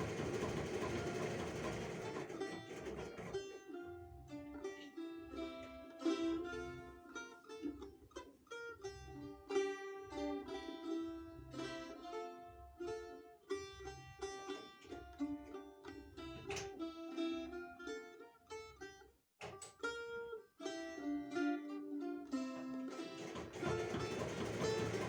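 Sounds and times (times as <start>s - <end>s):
balalaika folk tune: 0.0s - 25.0s.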